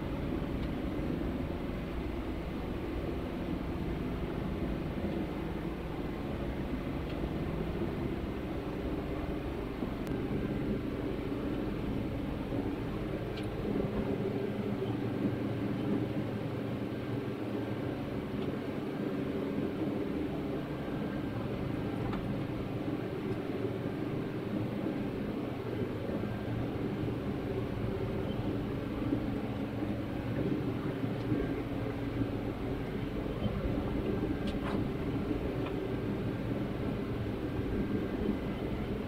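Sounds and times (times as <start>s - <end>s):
steady low drone: 0.0s - 39.0s.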